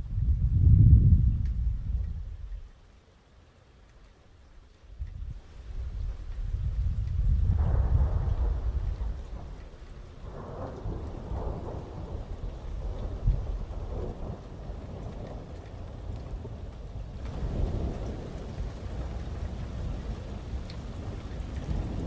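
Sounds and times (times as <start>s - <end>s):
thunder rumbling: 0.0s - 2.5s, 6.5s - 22.0s
heavy rain: 0.0s - 22.0s.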